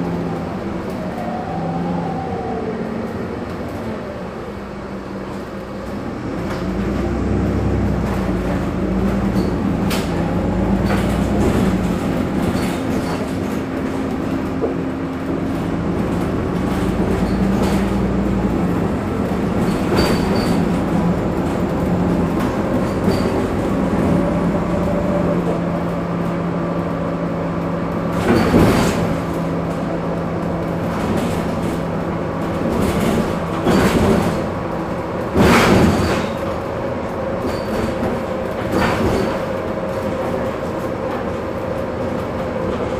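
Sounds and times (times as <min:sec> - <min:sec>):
bus engine idling: 0:02.7 - 0:42.9.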